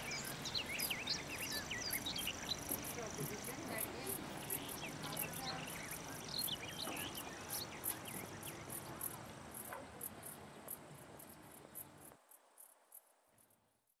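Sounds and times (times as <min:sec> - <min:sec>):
crickets chirping: 0:00.0 - 0:13.9
soft background hiss: 0:00.0 - 0:14.0.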